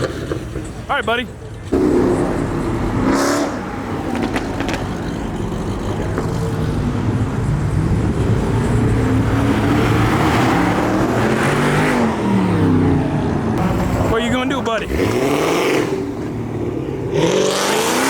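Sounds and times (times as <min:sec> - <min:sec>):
car engine revving: 0:01.7 - 0:18.0.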